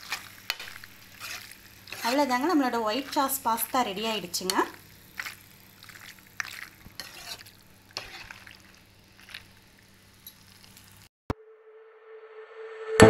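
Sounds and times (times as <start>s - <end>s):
utensil scraping frying pan: 0.0s - 11.0s.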